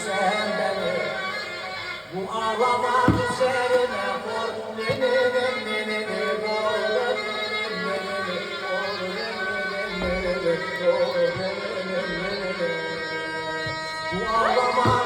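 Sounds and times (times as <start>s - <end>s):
reedy zurna melody: 0.0s - 15.0s.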